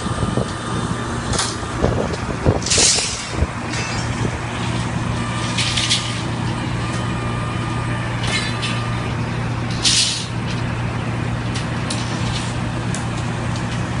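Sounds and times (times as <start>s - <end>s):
low machine drone: 0.0s - 14.0s.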